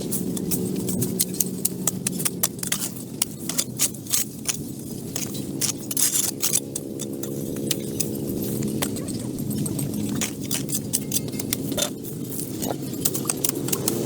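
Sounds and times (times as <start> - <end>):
engine running: 0.0 - 14.0
metallic clicks and clinks: 0.0 - 14.0.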